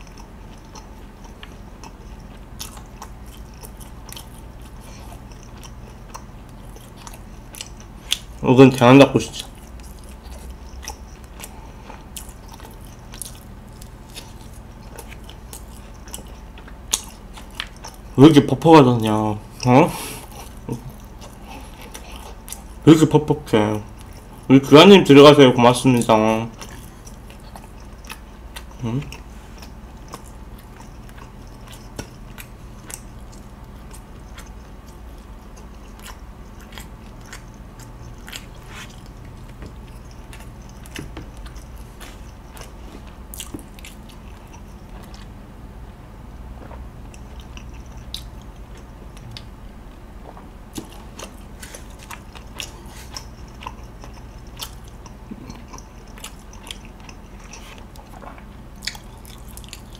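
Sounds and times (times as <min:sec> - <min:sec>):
chewing crunchy food: 0:00.0 - 0:45.4, 0:46.6 - 0:59.9.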